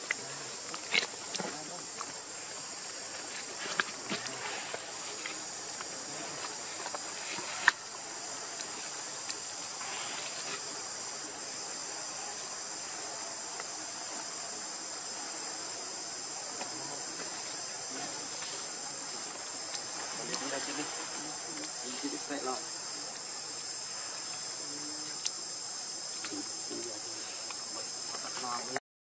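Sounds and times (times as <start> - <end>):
insects chirring: 0.0 - 28.8.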